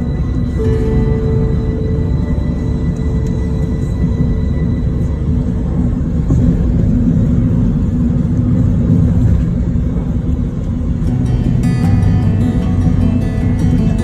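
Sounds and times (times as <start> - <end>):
road rumble inside car: 0.0 - 14.0.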